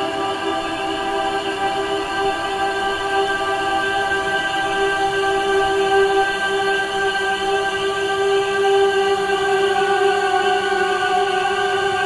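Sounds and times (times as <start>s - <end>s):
choir-like held chord: 0.0s - 12.0s.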